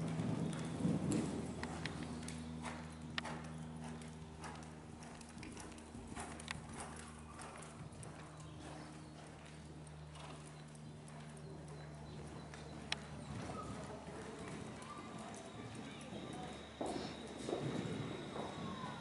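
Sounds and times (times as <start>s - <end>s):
muffled hoofbeats on soft ground: 0.0s - 19.0s
steady low hum: 0.0s - 19.0s.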